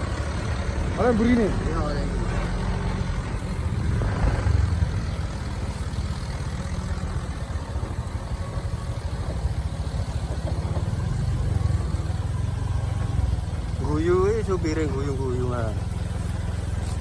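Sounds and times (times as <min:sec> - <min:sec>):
motorcycle engine: 0:00.0 - 0:17.0
truck engine rumbling: 0:00.0 - 0:17.0.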